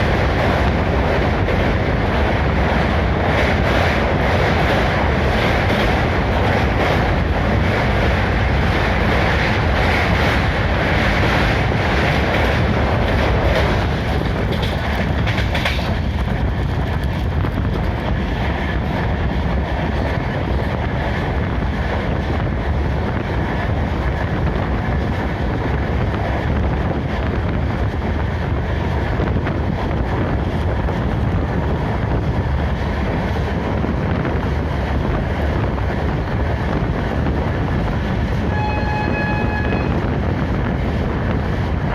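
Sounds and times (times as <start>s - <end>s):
wheel clickety-clack: 0.0s - 38.6s
train rumbling on rails: 0.0s - 41.9s.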